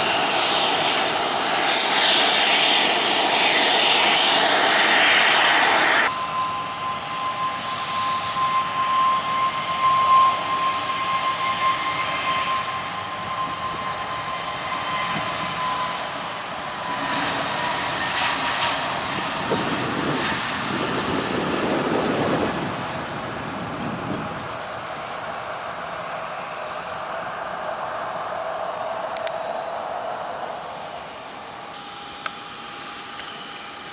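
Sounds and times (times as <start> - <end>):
jet engine roar: 0.0 - 33.9
jet engines whining: 0.0 - 33.9.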